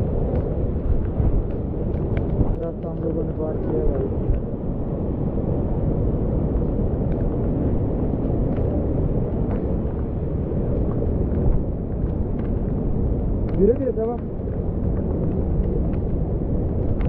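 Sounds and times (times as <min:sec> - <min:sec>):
torrent rushing over boulders: 0:00.0 - 0:17.0.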